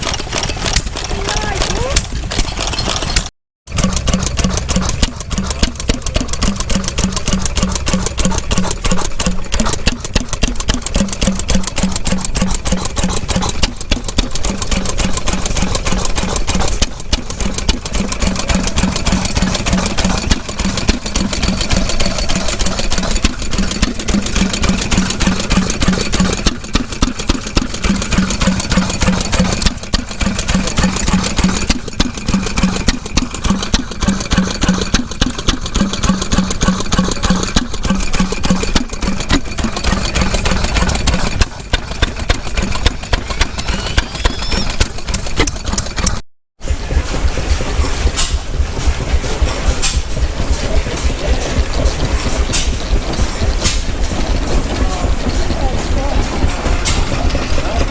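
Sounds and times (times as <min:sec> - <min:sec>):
stationary engine running: 0:00.0 - 0:57.9.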